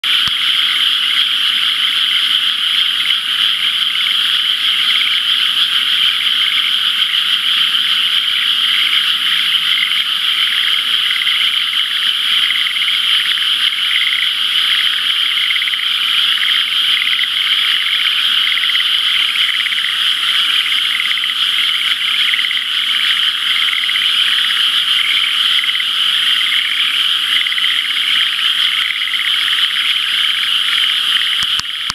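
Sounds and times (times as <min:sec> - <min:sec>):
chorus of frogs calling: 0:00.0 - 0:31.9.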